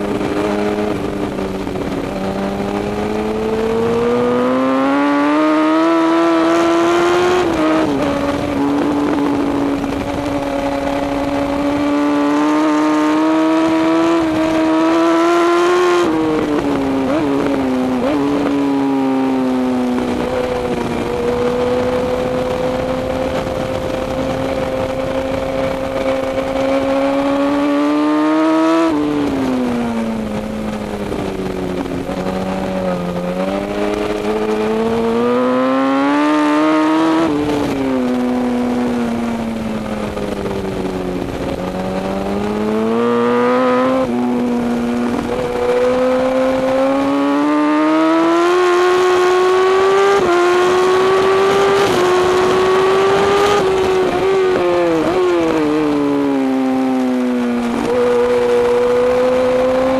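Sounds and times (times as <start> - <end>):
motorcycle engine at high revs: 0.0 - 59.9
wind rush: 0.0 - 59.9.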